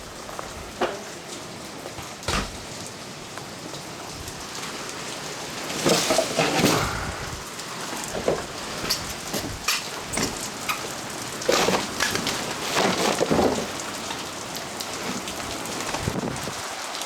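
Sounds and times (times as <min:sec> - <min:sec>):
hail hits: 0:00.0 - 0:17.0
heavy rain pouring: 0:00.0 - 0:17.0.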